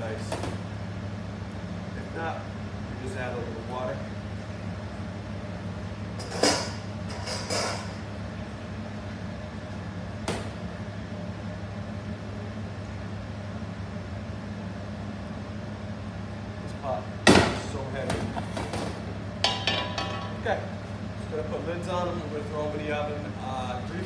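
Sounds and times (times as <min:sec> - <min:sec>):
kitchen equipment humming: 0:00.0 - 0:24.0.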